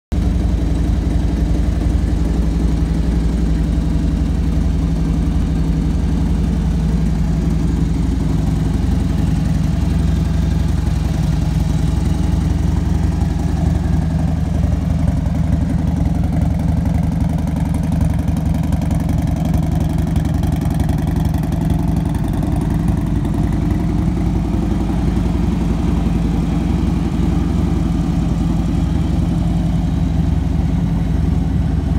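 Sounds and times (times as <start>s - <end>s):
motorcycle engine idling: 0.1s - 31.9s.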